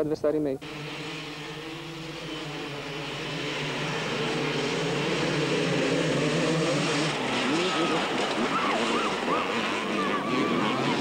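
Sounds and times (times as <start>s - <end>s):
motocross bikes revving: 0.6s - 11.0s.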